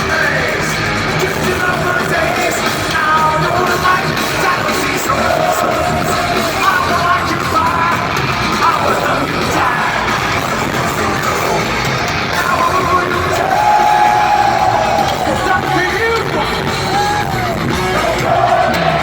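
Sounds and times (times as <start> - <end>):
person shouting singing: 0.0 - 11.7, 12.4 - 19.0
heavy metal band playing: 0.0 - 19.0.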